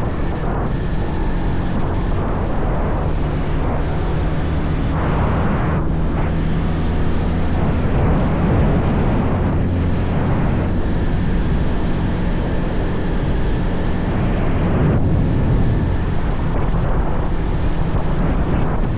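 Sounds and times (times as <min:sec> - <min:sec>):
motorcycle engine cruising: 0:00.0 - 0:18.9
wind buffeting microphone: 0:00.0 - 0:18.9.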